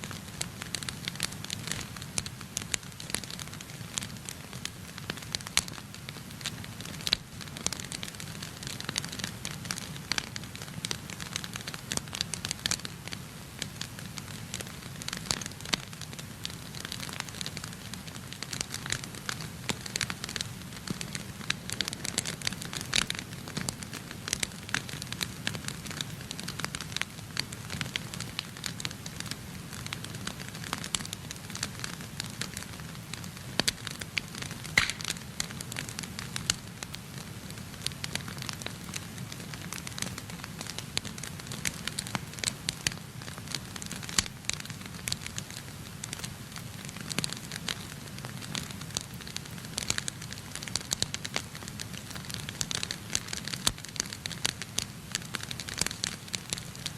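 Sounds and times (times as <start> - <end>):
low rumble of fire: 0.0 - 56.9
wood fire crackling and popping: 0.0 - 56.9.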